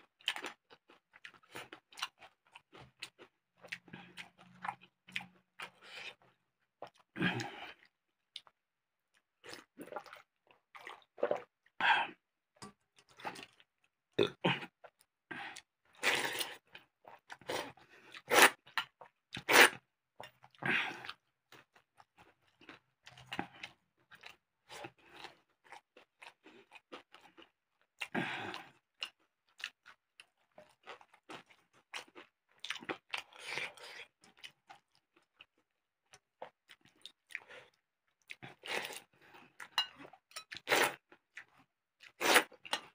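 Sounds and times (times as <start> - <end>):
crunching and chewing food: 0.0 - 11.8, 12.6 - 42.9.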